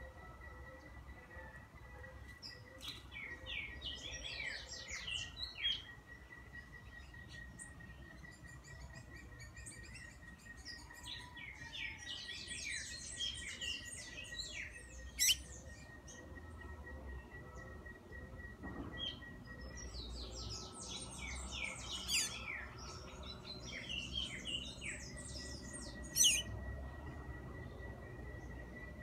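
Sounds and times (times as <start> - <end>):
bird twittering song: 0.1 - 29.0.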